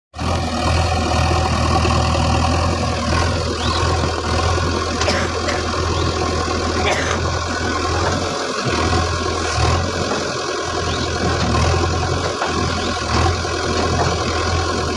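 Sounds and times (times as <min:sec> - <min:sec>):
heavy diesel engine running: 0:00.2 - 0:14.9.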